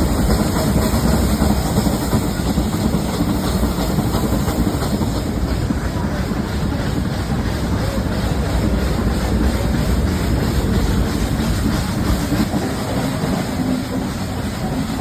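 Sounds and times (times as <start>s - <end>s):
train wheels on track: 0.0s - 15.0s.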